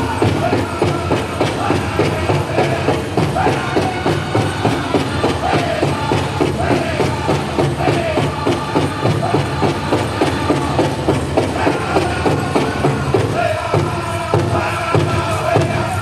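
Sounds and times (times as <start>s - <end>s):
big drum beating fast: 0.0s - 16.0s
singers' high voices: 0.0s - 16.0s.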